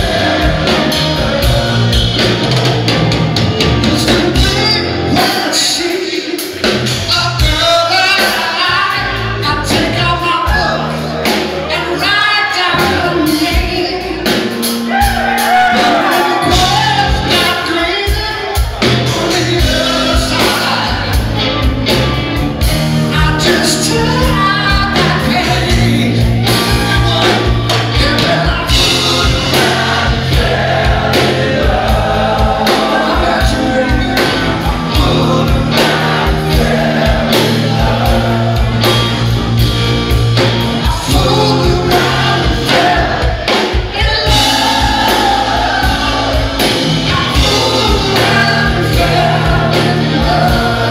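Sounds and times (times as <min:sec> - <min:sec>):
man singing: 0:00.0 - 0:02.6, 0:03.6 - 0:21.6, 0:23.0 - 0:39.1, 0:40.7 - 0:50.9
bass guitar: 0:00.0 - 0:50.9
drums: 0:00.0 - 0:50.9
electric guitar: 0:00.0 - 0:50.9.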